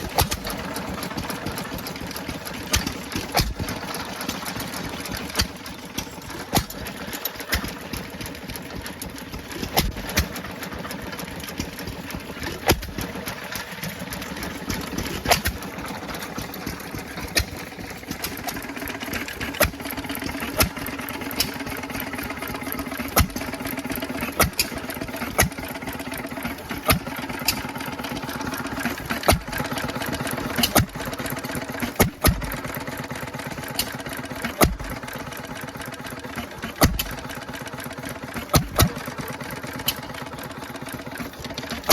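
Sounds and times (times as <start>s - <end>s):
sharp exhaust pops: 0.0s - 41.9s
stationary engines clattering: 0.0s - 41.9s.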